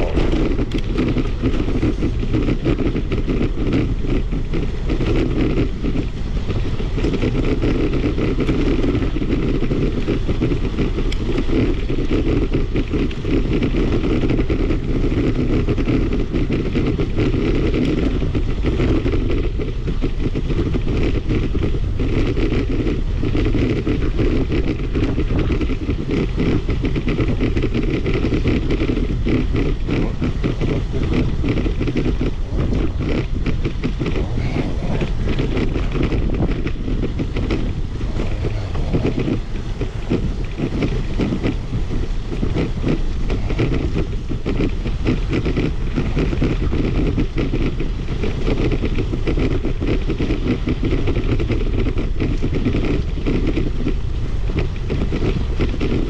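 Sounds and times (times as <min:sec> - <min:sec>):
bicycle rumbling and rattling: 0:00.0 - 0:56.0.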